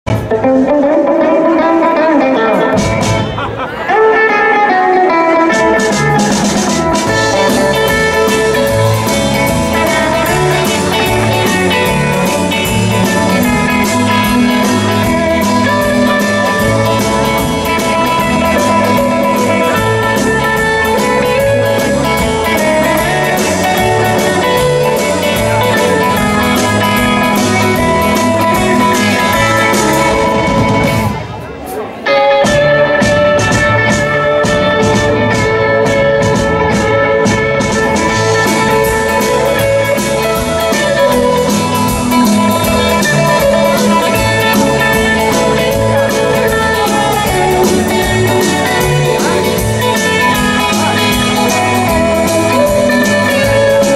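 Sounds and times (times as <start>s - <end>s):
bass guitar: 0.0s - 53.9s
electric guitar: 0.0s - 53.9s
drum kit with cymbals: 2.6s - 3.7s, 5.4s - 53.9s.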